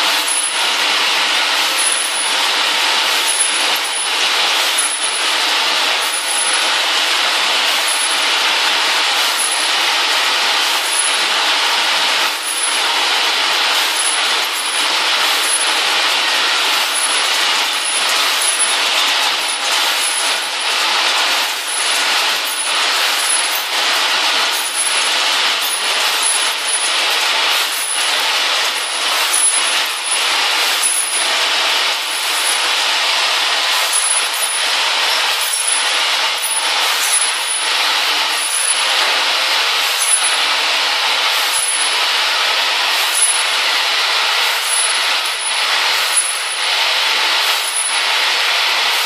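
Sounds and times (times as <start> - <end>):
machine rattling metal parts: 0.0 - 49.0.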